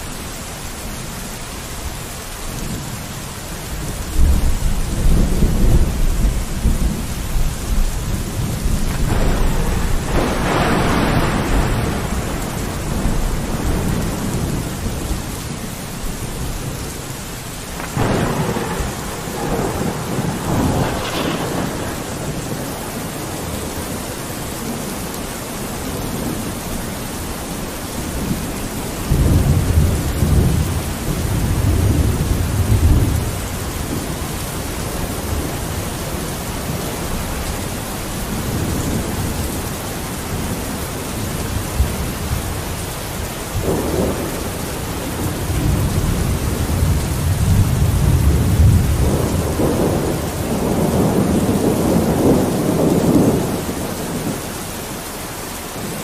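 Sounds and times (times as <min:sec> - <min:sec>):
rain falling on a window: 0:00.0 - 0:56.0
rolling thunder rumbles: 0:03.6 - 0:55.1.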